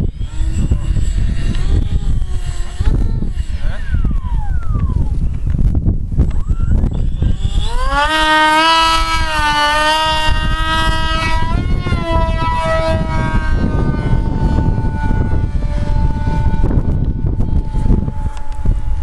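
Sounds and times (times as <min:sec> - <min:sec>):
electric motor and propeller whine: 0:00.0 - 0:19.0
wind rumble on microphone: 0:00.0 - 0:19.0.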